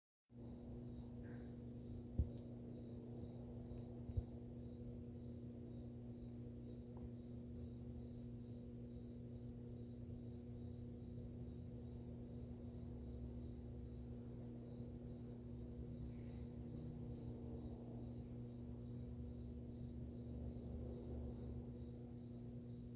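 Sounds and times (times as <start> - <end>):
aquarium pump humming: 0.4 - 22.9.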